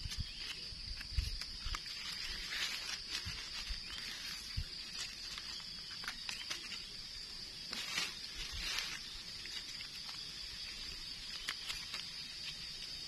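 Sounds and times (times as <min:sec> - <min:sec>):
dry leaves crackling: 0:00.0 - 0:13.0.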